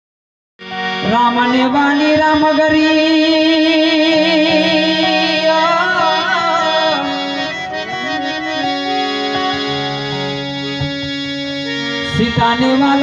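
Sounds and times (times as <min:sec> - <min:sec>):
harmonium playing a melody: 0:00.6 - 0:13.0.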